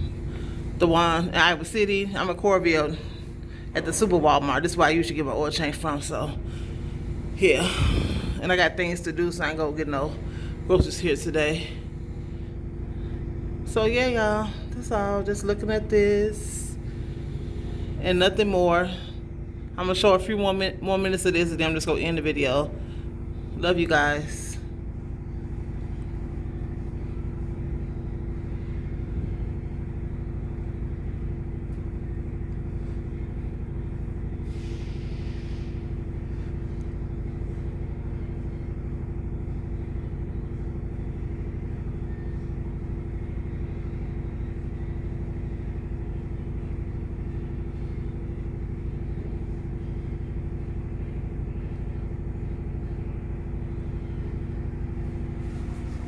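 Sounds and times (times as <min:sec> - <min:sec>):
low mechanical drone: 0:00.0 - 0:56.0.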